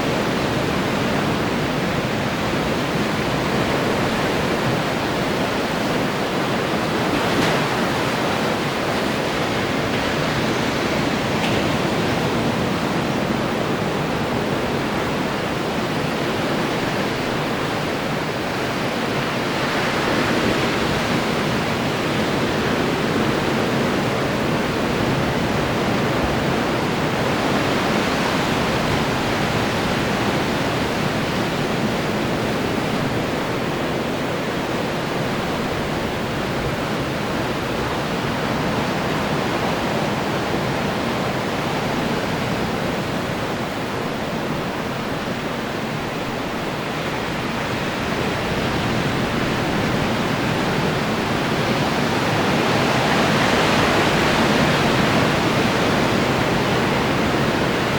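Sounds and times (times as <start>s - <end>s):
ocean surf breaking on shore: 0.0s - 57.9s.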